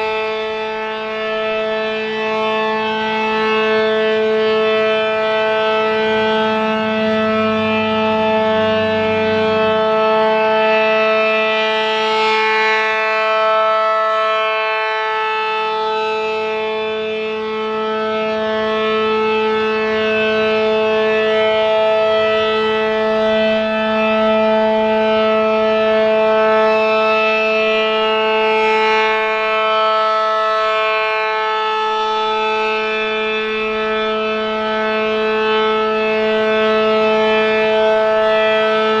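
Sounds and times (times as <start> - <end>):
rotating siren two-note chord: 0.0 - 39.0.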